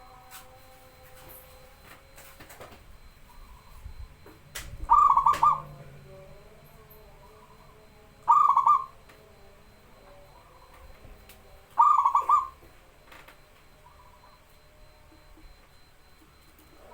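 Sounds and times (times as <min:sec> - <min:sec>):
dove cooing: 0:00.0 - 0:16.9.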